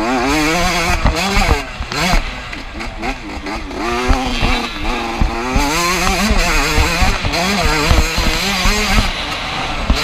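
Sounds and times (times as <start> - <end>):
two-stroke motorcycle engine revving: 0.0 - 10.0.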